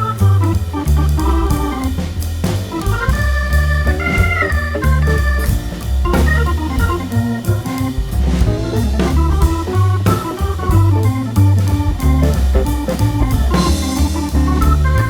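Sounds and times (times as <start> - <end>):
electronic organ music: 0.0 - 15.0
steady bass line: 0.0 - 15.0.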